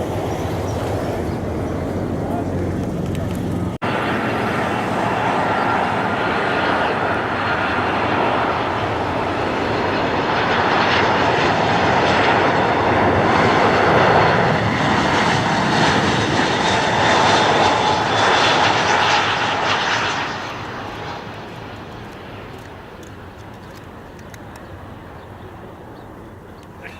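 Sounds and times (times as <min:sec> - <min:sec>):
jet engines passing: 0:00.0 - 0:26.9.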